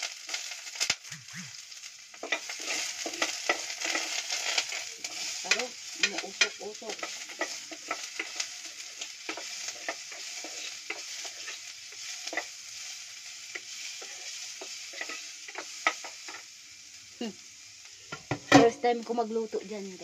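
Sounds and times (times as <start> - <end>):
ginger sizzling in oil: 0.0 - 20.0.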